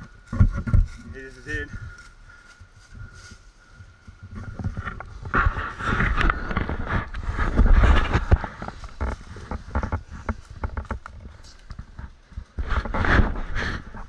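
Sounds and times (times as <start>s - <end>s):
dirt bike knocking and scraping: 0.0s - 1.9s, 4.1s - 14.0s.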